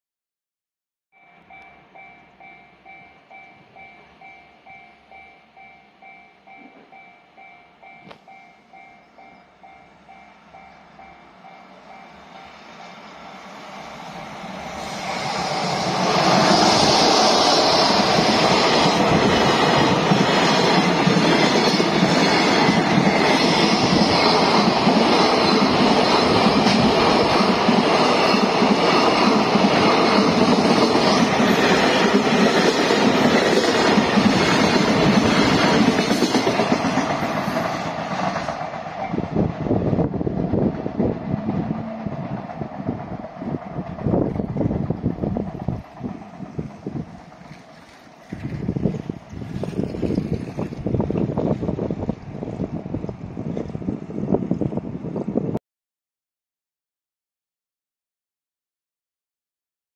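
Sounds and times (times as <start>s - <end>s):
train wagons passing on rails: 1.2s - 55.6s.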